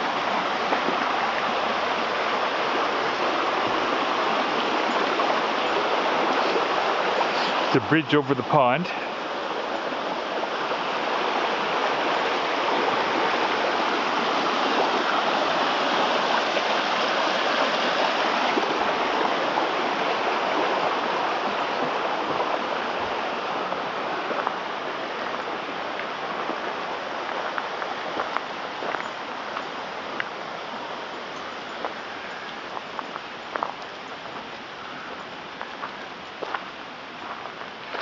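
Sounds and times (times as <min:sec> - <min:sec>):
creek rushing over rocks: 0:00.0 - 0:38.0.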